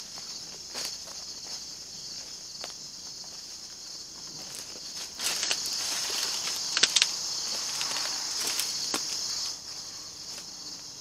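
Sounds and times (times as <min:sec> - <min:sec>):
footsteps and rustling in brush: 0:00.0 - 0:11.0
insects chirring: 0:00.0 - 0:11.0.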